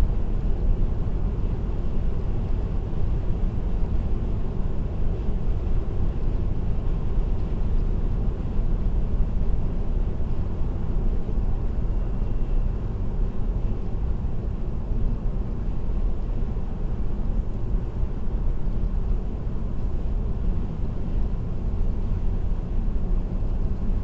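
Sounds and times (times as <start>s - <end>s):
car road noise from inside: 0.0s - 24.0s.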